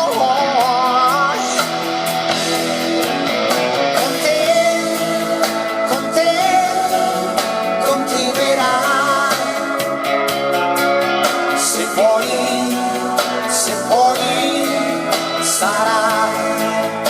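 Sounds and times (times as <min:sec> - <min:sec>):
pop-rock song over loudspeakers: 0:00.0 - 0:17.0.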